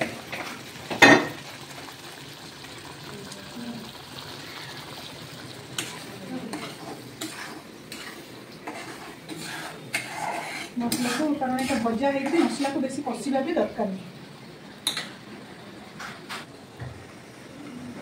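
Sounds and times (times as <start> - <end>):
spices sizzling in oil: 0.0 - 18.0.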